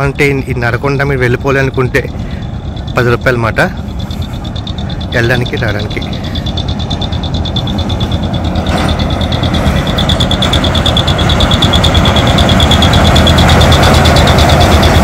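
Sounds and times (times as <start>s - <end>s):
rapidly pulsing high-pitched tone: 0.0s - 15.0s
mini train engine running: 0.9s - 15.0s.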